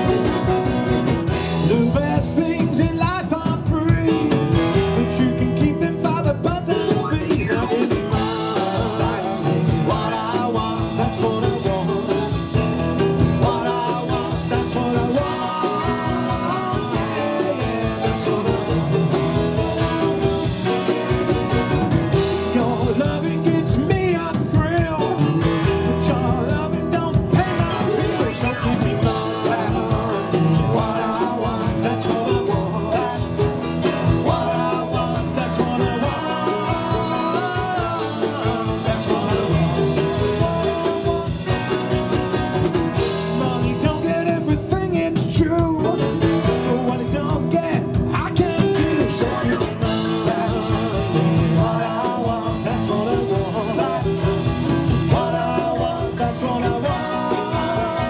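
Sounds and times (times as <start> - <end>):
drum kit beat: 0.0 - 58.0
electric guitars: 0.0 - 58.0
keyboard playing: 0.0 - 58.0
man singing lead vocal: 1.2 - 58.0.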